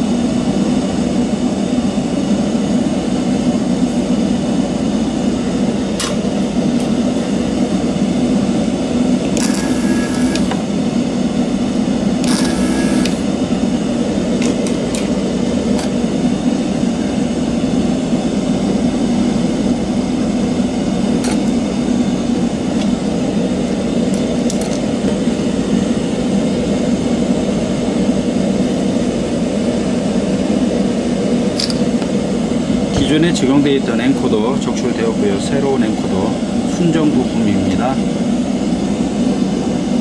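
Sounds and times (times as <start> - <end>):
machine drone with low hum: 0.0 - 40.0.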